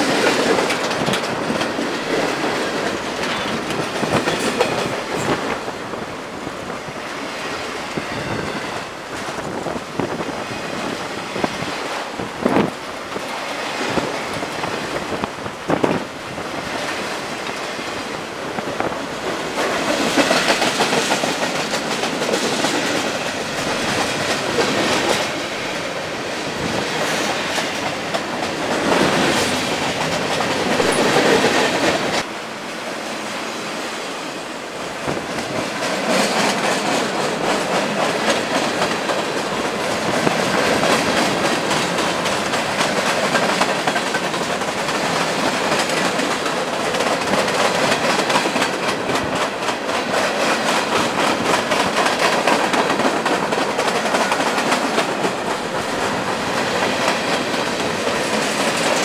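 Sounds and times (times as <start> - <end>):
clickety-clack over rail joints: 0.0 - 32.3, 34.8 - 59.0
freight cars rolling on rails: 0.0 - 59.0.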